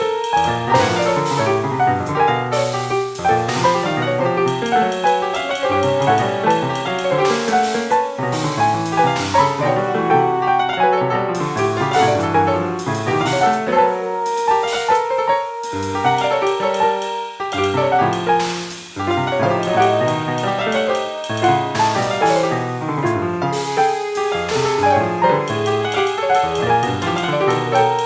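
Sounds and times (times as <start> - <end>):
free jazz piano: 0.0 - 28.0.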